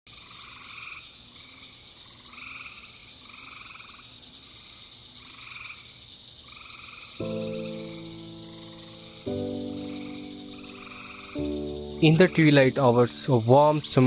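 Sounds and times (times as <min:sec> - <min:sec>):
frogs calling: 0:00.1 - 0:14.0
insects droning: 0:00.1 - 0:14.0.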